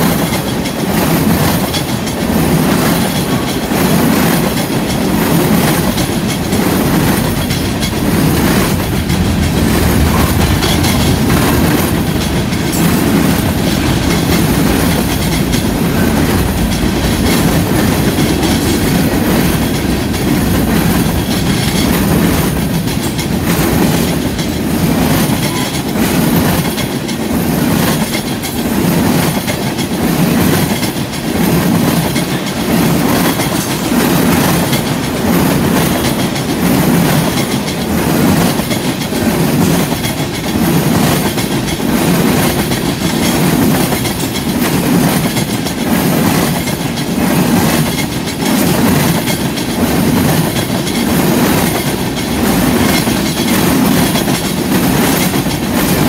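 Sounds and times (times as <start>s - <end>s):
steel wheels rumbling: 0.0s - 56.0s
wheels clickety-clack on rail joints: 0.0s - 56.0s.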